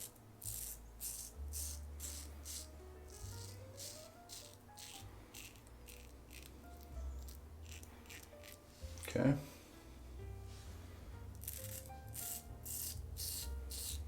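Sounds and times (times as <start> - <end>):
razor scraping stubble: 0.0 - 9.2, 11.4 - 14.0.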